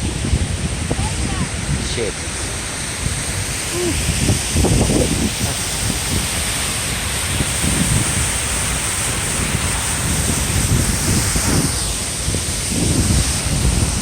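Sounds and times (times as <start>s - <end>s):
steady rushing outdoor noise: 0.0s - 14.0s
wind buffeting microphone: 0.0s - 14.0s.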